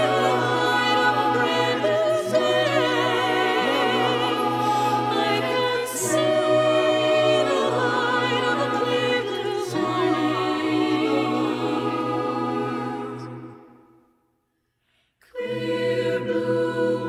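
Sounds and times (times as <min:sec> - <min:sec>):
mixed choir singing chords: 0:00.0 - 0:14.1, 0:15.2 - 0:17.0.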